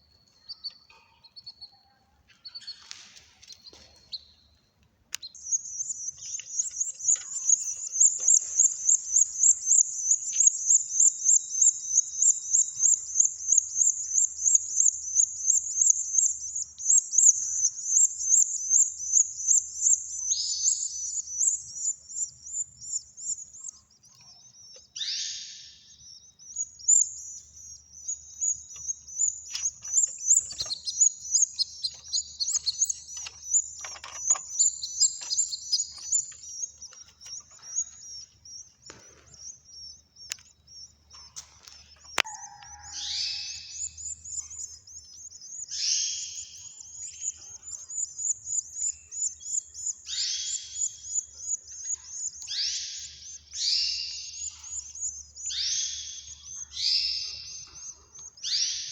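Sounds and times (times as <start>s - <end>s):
songbird chicks chirping: 0.0s - 58.9s.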